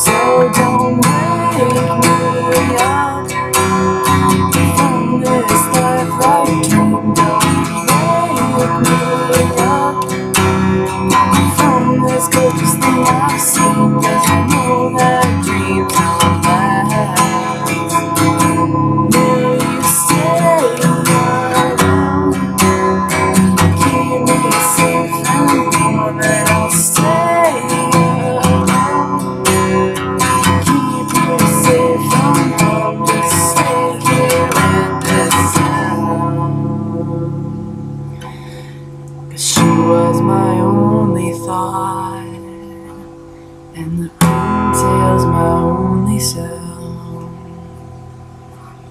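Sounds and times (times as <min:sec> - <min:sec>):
person singing: 0:00.0 - 0:47.8
acoustic guitar strumming: 0:00.0 - 0:48.9.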